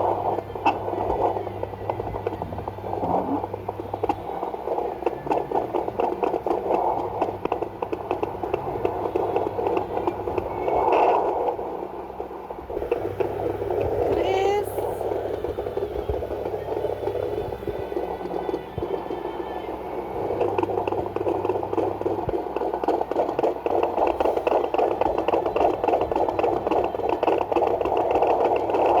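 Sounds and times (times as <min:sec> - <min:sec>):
doppler speaker hiss: 0:00.0 - 0:29.0
fetal doppler heartbeat whooshing: 0:00.0 - 0:29.0.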